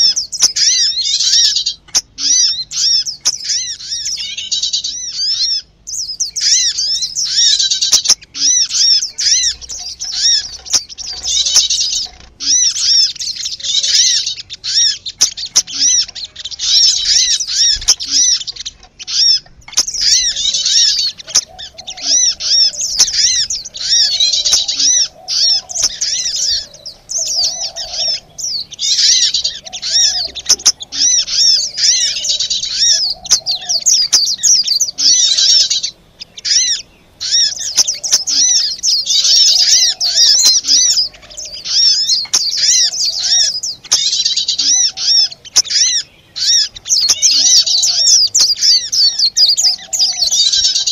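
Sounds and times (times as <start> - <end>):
agitated bird calls: 0.0 - 50.9
songbirds chirping: 0.0 - 50.9.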